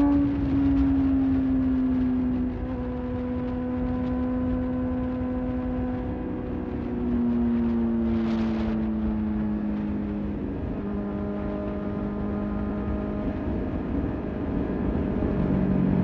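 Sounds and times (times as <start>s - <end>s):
constant low rumble: 0.0s - 16.0s
motorcycle engine cruising: 0.0s - 16.0s.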